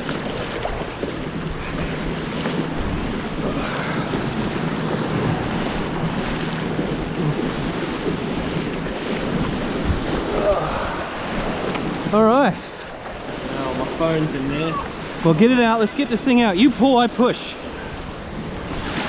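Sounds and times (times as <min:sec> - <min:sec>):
water splashing around feet: 0:00.0 - 0:16.8
small waves washing up beach: 0:00.0 - 0:19.0
wind buffeting microphone: 0:00.0 - 0:19.0.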